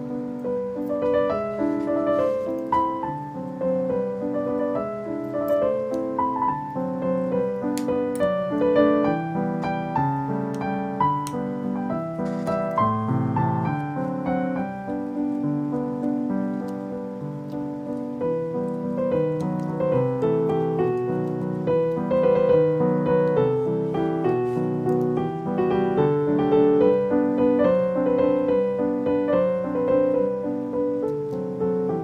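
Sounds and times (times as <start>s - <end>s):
gentle piano music: 0.0s - 32.0s.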